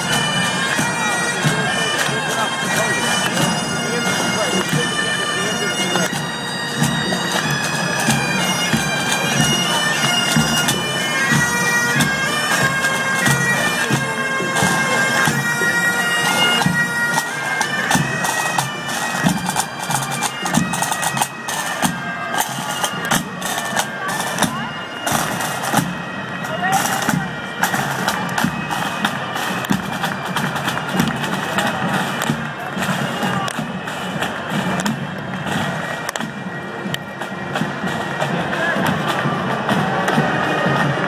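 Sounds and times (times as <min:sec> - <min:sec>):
bagpipes playing: 0:00.0 - 0:41.0.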